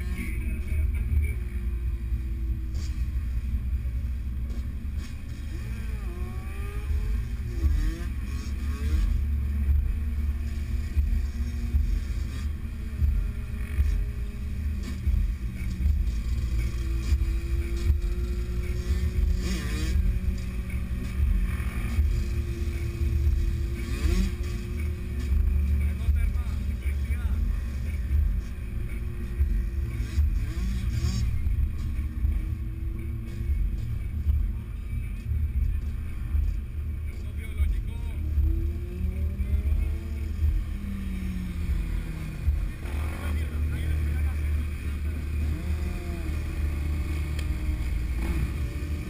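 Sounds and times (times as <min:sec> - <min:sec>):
motorcycle engines rumbling: 0:00.0 - 0:49.0.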